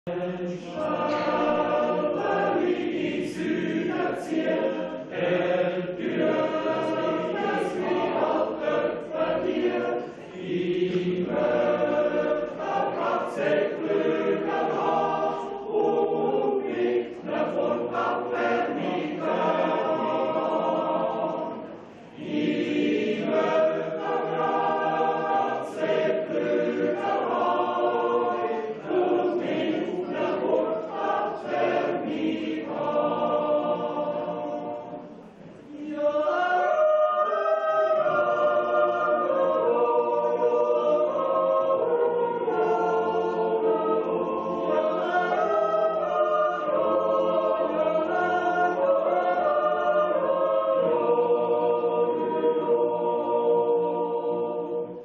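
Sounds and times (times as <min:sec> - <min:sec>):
choir yodeling: 0:00.0 - 0:55.0.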